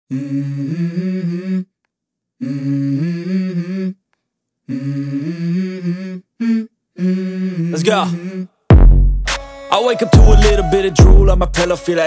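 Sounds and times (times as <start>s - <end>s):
wordless vocal melody: 0.1s - 1.8s, 2.4s - 8.6s, 9.3s - 12.0s.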